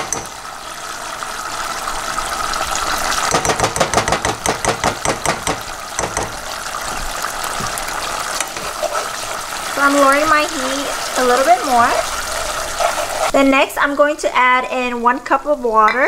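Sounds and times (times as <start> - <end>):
sauce sizzling and bubbling: 0.0 - 15.4.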